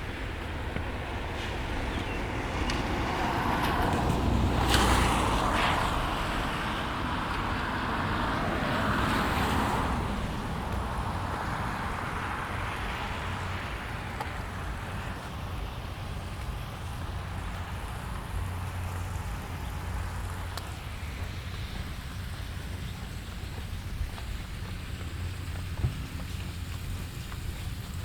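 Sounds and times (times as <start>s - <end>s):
rainfall: 0.0s - 28.0s
tyres hissing on wet street: 0.0s - 28.0s.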